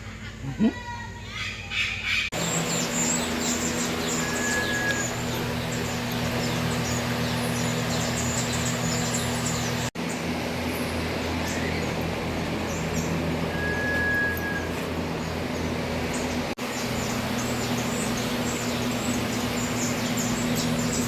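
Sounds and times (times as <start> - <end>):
small birds chirping: 0.0 - 21.0
steady low hum: 2.2 - 21.0.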